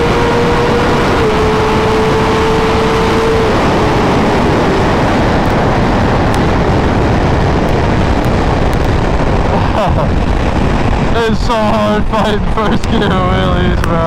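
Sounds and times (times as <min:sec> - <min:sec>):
motorcycle engine drone: 0:00.0 - 0:14.0
wind rush on microphone: 0:00.0 - 0:14.0.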